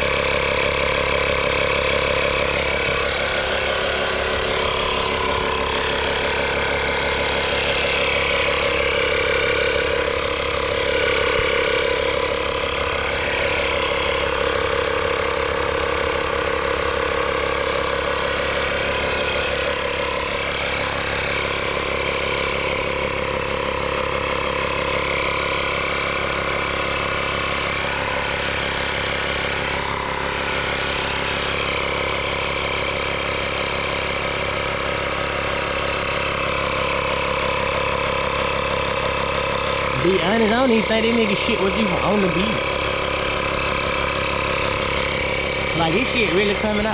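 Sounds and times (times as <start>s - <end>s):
air compressor running: 0.0s - 46.9s.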